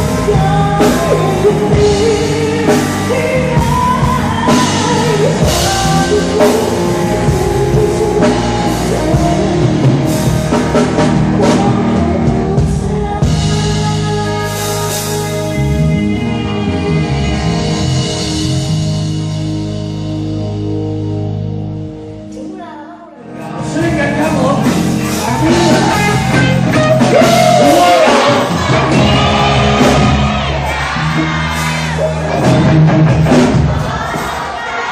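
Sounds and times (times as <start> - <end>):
person singing: 0.0 - 18.3, 22.3 - 32.7
drum kit beats: 0.0 - 22.4, 23.4 - 34.9
band playing rock music: 0.0 - 34.9
guitar: 0.0 - 34.9.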